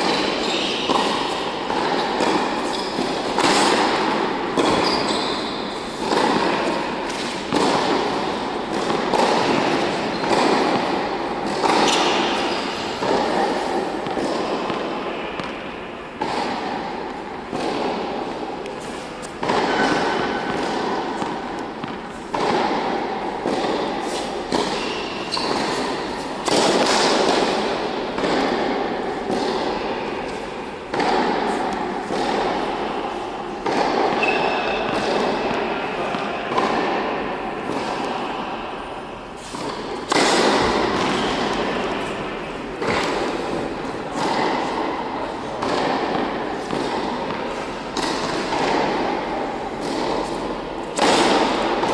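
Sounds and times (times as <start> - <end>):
tennis ball hits with echo: 0.0 - 51.9.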